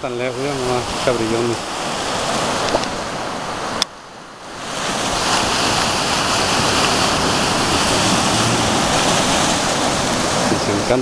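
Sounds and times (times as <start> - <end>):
surf breaking on rocks: 0.0 - 3.8, 4.4 - 11.0.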